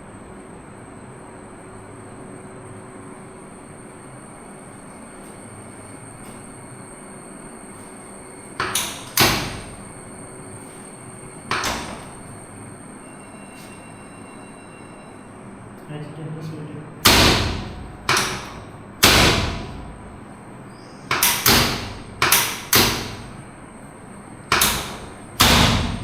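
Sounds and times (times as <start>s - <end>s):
steady room hiss: 0.0s - 26.0s.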